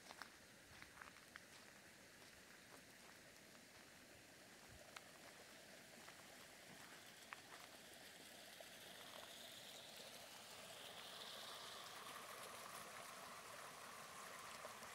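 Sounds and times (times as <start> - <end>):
small stream trickling: 0.0 - 14.9.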